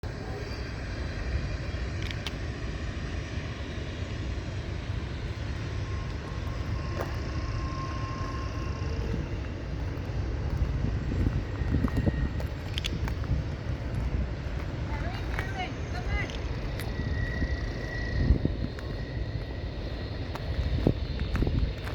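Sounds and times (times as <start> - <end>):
freight train rumbling: 0.0 - 21.9.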